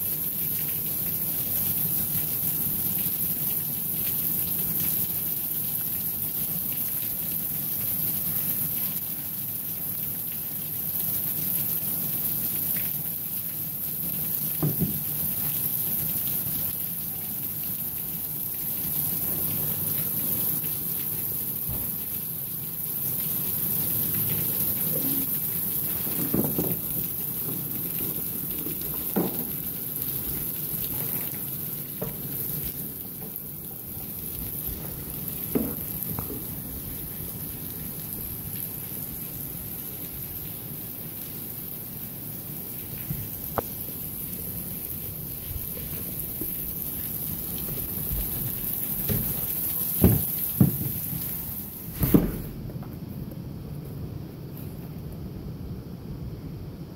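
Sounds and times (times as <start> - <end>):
rain on concrete: 0.0 - 56.9.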